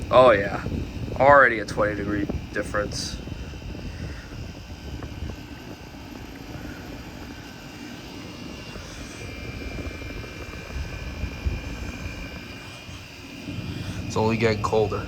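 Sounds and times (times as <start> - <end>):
air conditioner droning: 0.0 - 15.0.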